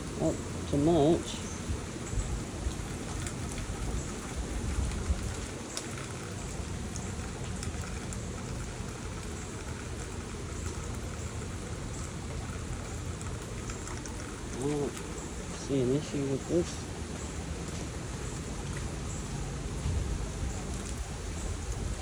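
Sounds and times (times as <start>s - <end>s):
steady rain hiss: 0.0s - 22.0s
raindrop ticks: 1.4s - 22.0s.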